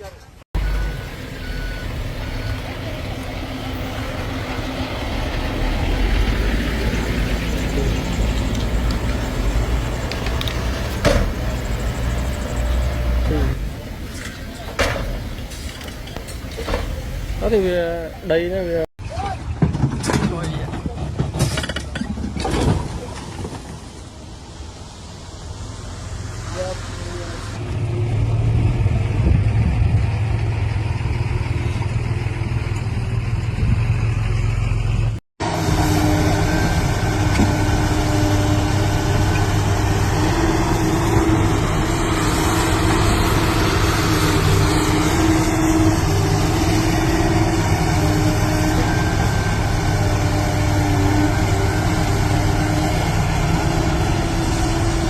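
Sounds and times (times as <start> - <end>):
diesel engine running: 0.6 - 18.9, 25.9 - 55.0.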